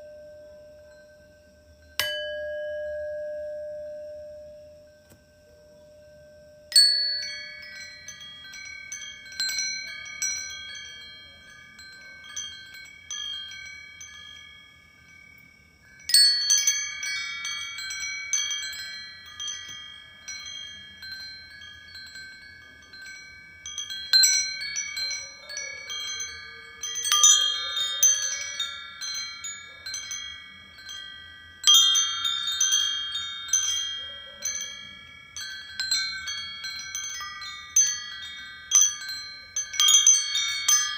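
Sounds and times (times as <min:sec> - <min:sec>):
metal wind chimes ringing: 0:00.0 - 0:40.9.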